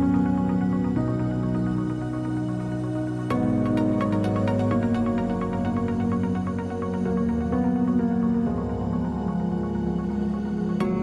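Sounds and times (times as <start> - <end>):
calm background music: 0.0 - 11.0.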